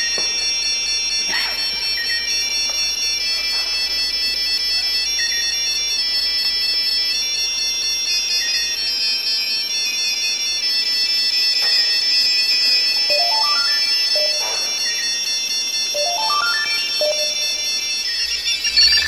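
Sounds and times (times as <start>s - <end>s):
phones ringing: 0.0s - 19.0s.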